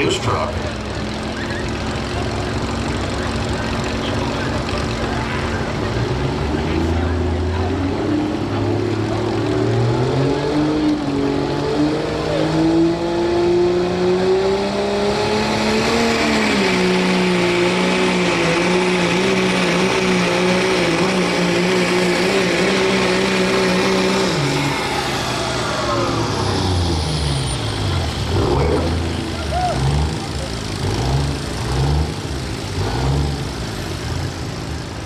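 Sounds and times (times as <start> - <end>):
diesel engine revving under load: 0.0 - 35.0.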